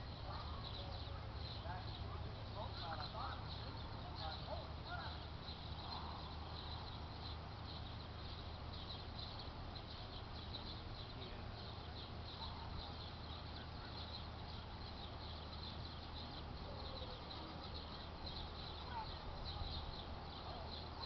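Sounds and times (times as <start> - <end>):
rapid high-pitched chirping: 0.0 - 21.0
steady low hum: 0.0 - 21.0.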